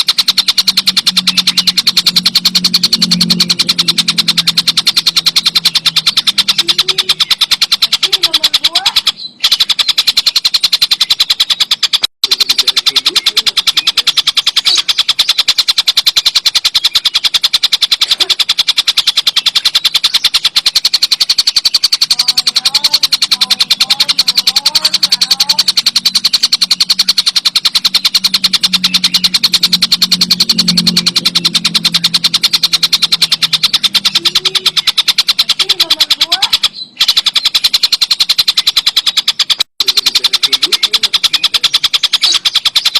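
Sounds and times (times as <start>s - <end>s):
kingfisher rattling trill: 0.0s - 42.9s.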